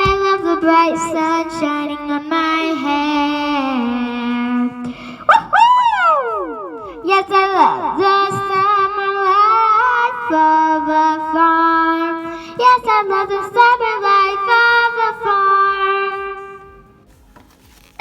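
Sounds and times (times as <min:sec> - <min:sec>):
child singing held notes: 0:00.0 - 0:16.8.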